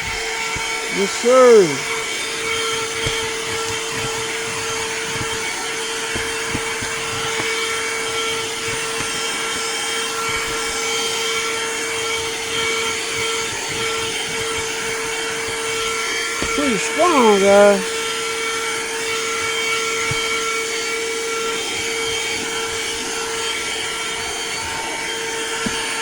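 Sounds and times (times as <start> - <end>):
handheld vacuum running: 0.0 - 16.6, 17.2 - 26.0.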